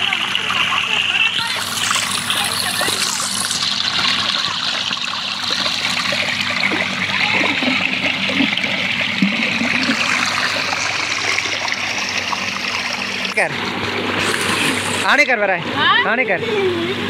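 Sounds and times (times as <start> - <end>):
water rushing along concrete channel: 0.0 - 15.5.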